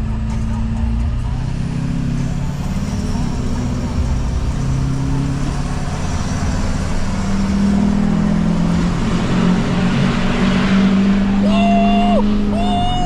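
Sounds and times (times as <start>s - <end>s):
diesel truck engine accelerating: 0.0s - 13.0s.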